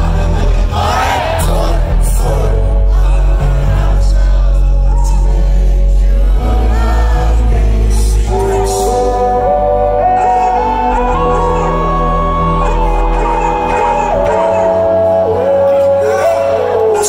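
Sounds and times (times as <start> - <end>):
live concert music: 0.0 - 17.0
person singing: 0.0 - 17.0.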